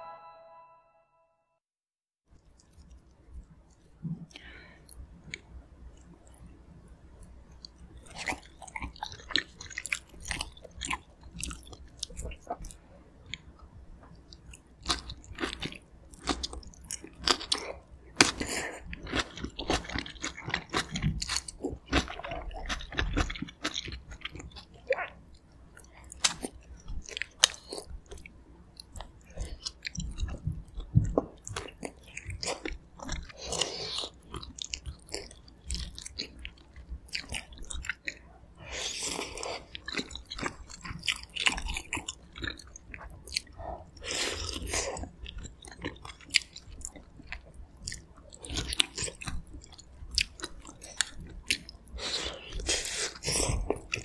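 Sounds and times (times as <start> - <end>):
close chewing and biting: 7.2 - 54.0.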